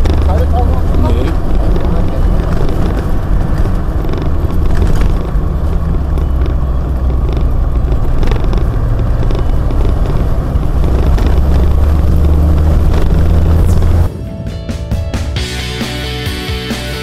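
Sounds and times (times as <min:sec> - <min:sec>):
tyres on dirt track: 0:00.0 - 0:16.2
car engine droning: 0:00.0 - 0:17.0.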